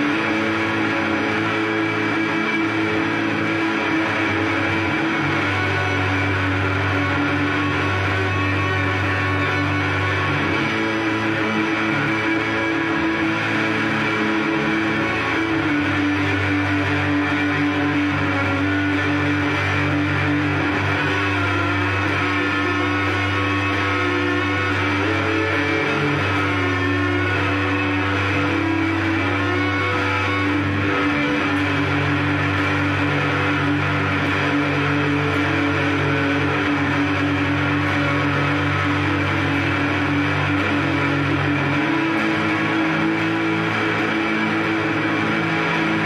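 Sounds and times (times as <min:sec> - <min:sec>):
electric guitar picked fast: 0:00.0 - 0:46.0.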